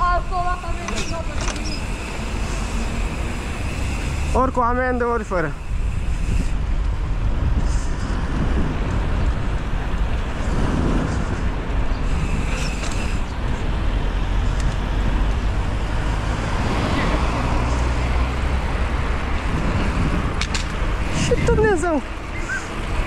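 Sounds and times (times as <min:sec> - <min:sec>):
bike tyres rolling on asphalt: 0:00.0 - 0:23.0
road traffic: 0:00.0 - 0:23.0
wind rumble on microphone: 0:00.0 - 0:23.0.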